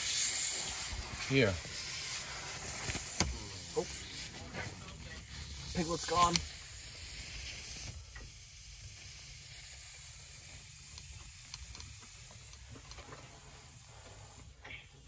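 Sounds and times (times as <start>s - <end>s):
pressurised gas hissing: 0.0s - 15.0s.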